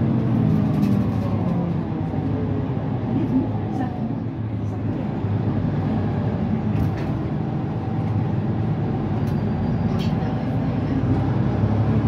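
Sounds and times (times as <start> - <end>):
diesel bus engine droning: 0.0 - 12.0.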